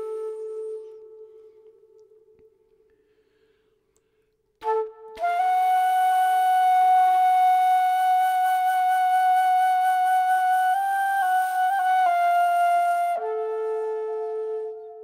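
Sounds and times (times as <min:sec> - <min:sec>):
flute playing long note: 0:00.0 - 0:01.8, 0:04.6 - 0:15.0.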